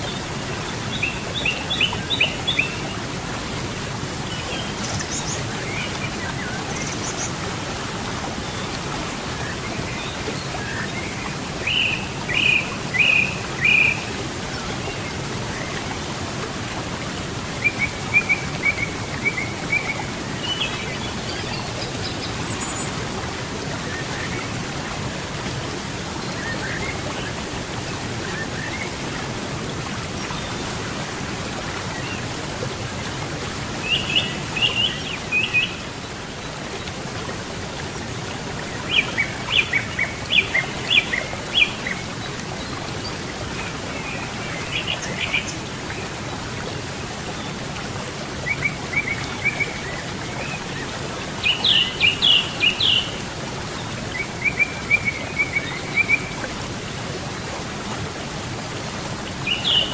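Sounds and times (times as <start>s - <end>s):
flowing river water: 0.0s - 59.9s.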